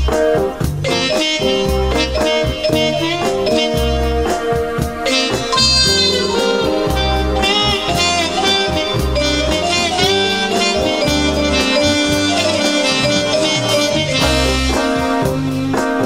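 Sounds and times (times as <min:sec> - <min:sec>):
steady bass line: 0:00.0 - 0:16.0
synthesizer jazz melody: 0:00.0 - 0:16.0.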